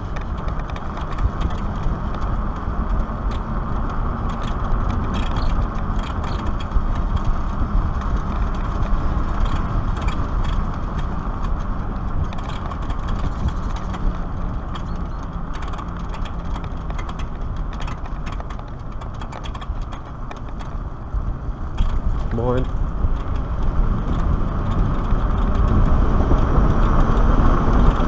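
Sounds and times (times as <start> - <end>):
light ticks and rattles: 0.0 - 28.0
tyres rolling on asphalt: 0.0 - 28.0
wind rushing over microphone: 0.0 - 28.0.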